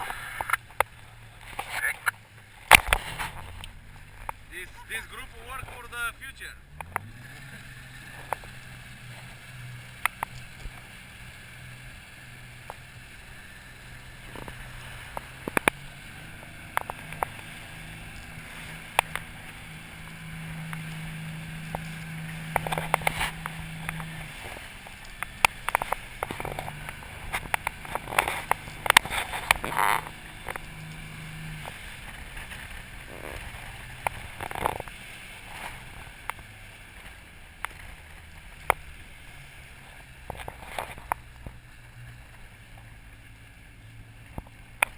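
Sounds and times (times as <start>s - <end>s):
boat motor humming: 0.0s - 44.9s.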